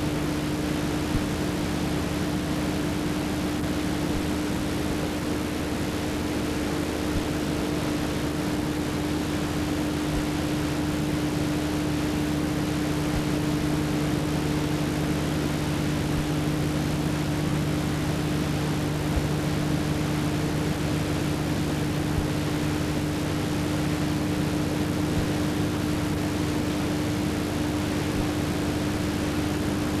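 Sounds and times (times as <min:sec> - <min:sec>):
low electrical hum: 0:00.0 - 0:30.0
lower hum: 0:00.0 - 0:30.0.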